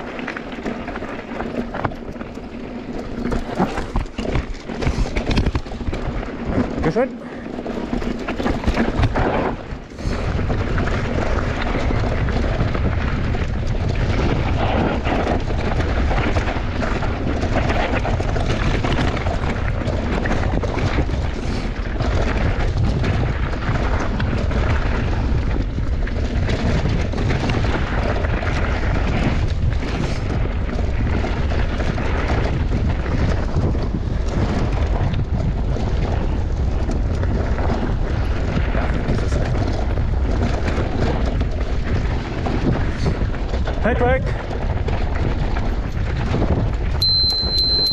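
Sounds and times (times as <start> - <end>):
mountain bike rattling: 0.0 - 47.9
wind buffeting microphone: 0.0 - 47.9.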